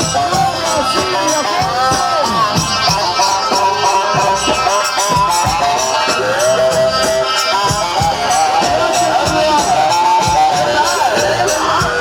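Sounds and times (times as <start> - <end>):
shaker percussion: 0.0 - 12.0
steady drum beat: 0.0 - 12.0.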